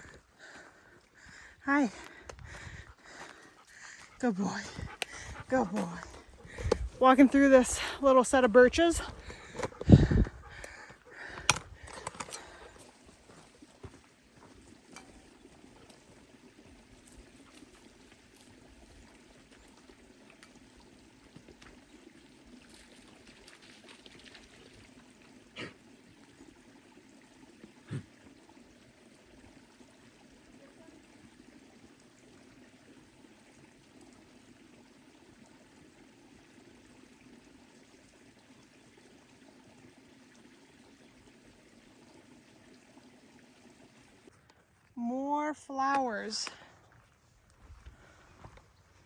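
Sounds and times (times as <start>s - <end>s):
creek water trickling: 0.0s - 49.0s.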